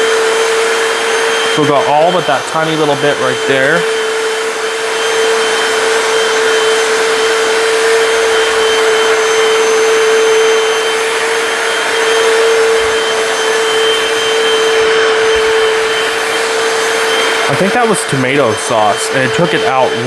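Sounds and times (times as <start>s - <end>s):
floor cleaner suction motor whine: 0.0s - 20.0s.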